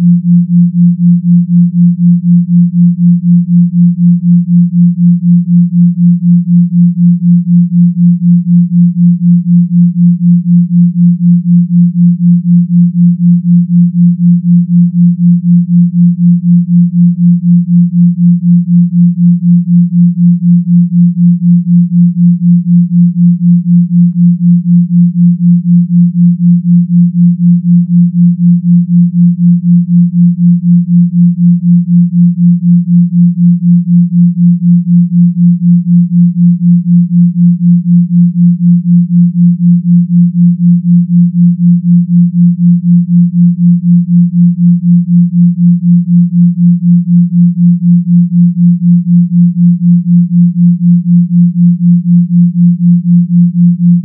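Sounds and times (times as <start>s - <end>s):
pulsing low pure tone: 0.0s - 54.0s.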